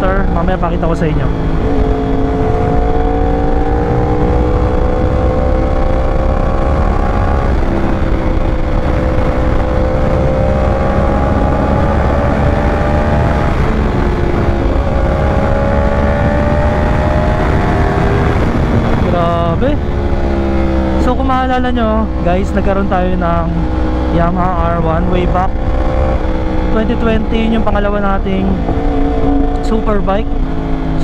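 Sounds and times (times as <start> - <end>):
motorcycle engine accelerating: 0.0 - 31.0
wind rush on microphone: 0.0 - 31.0.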